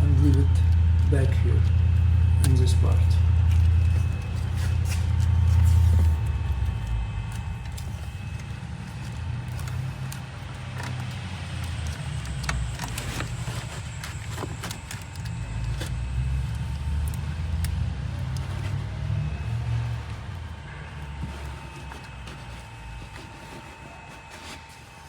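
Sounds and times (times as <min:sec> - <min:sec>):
steady low rumble: 0:00.0 - 0:24.3.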